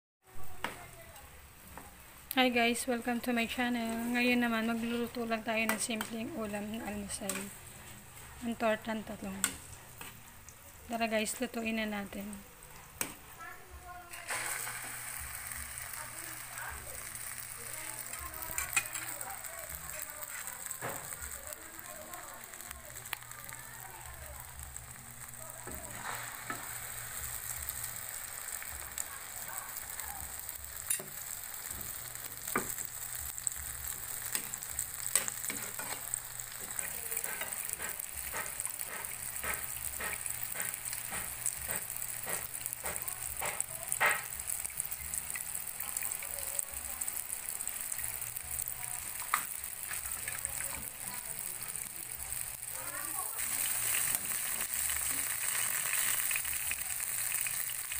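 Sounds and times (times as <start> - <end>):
oil sizzling with pops: 0.2 - 57.9.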